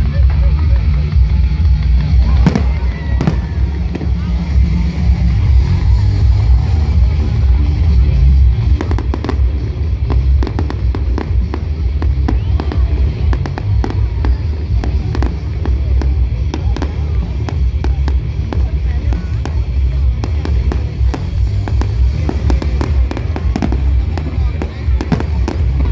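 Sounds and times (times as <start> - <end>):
bass-heavy music: 0.0 - 25.9
fireworks crackling and popping: 0.0 - 25.9.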